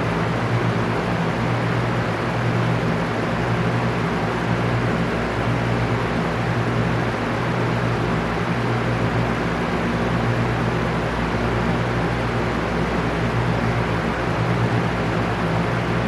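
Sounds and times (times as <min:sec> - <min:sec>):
fan air rushing: 0:00.0 - 0:16.0.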